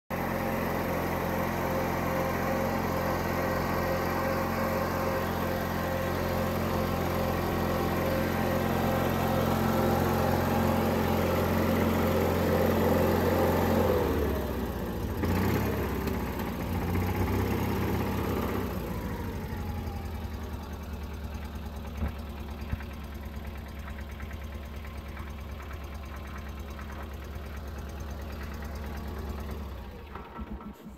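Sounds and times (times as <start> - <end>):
tractor engine idling: 0.2 - 30.9.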